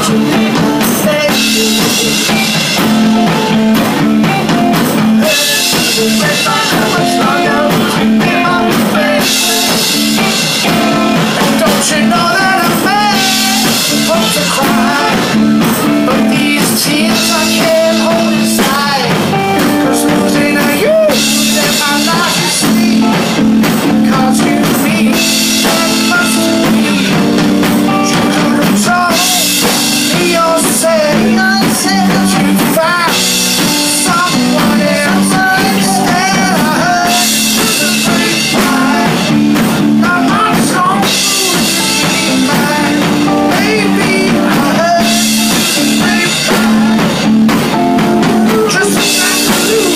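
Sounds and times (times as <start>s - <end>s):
drum kit with cymbals: 0.0s - 49.9s
electric guitar: 0.0s - 49.9s
man singing into a microphone: 0.0s - 49.9s.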